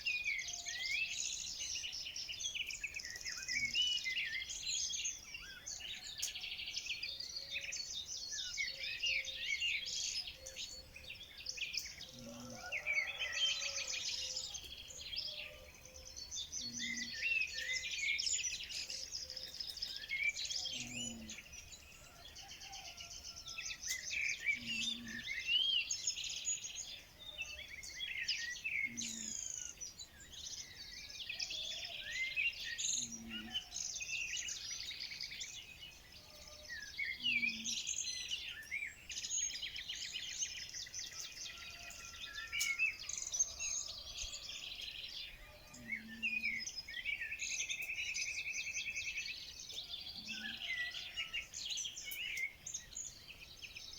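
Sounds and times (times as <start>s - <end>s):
songbirds chorus: 0.0s - 53.9s.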